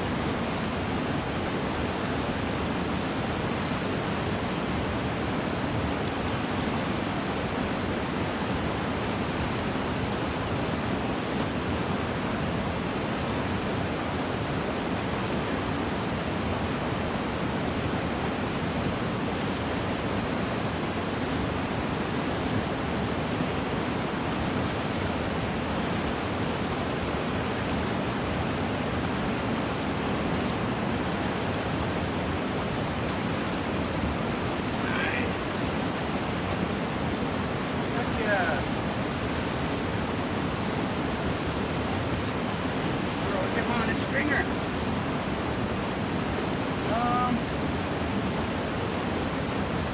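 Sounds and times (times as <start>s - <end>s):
stream water flowing: 0.0s - 49.9s.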